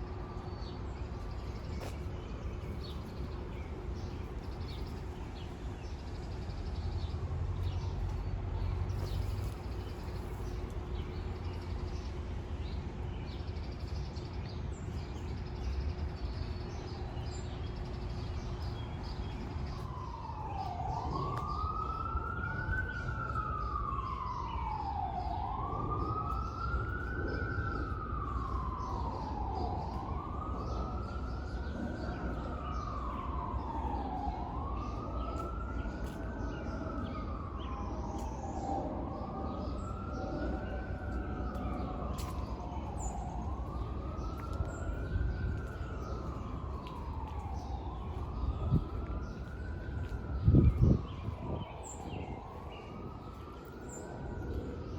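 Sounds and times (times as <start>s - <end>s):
emergency vehicle siren wailing: 0.0s - 13.5s, 16.0s - 54.9s
low city rumble: 0.0s - 54.9s.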